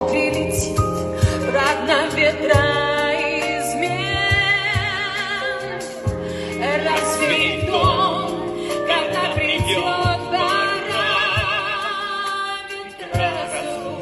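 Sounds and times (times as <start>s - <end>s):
band accompaniment: 0.0s - 14.0s
person singing with vibrato: 0.0s - 14.0s.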